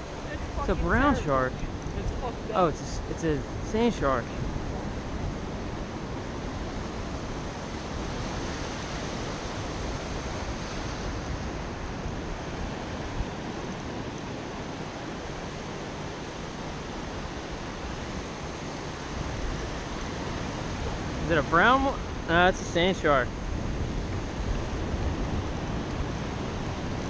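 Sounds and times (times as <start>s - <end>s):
ocean surf breaking: 0.0s - 27.0s
wind gusting on microphone: 0.0s - 27.0s.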